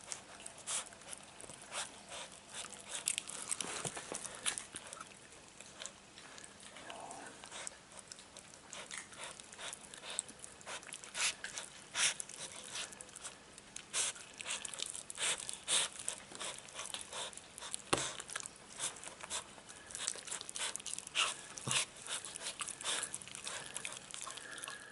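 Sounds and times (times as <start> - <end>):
puppy chewing meat: 0.0 - 24.9.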